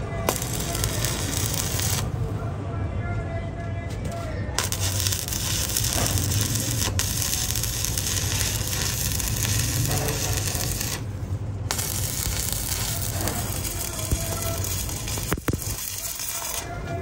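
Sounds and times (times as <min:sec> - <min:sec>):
welding arc crackling: 0:00.0 - 0:02.2, 0:04.6 - 0:17.0.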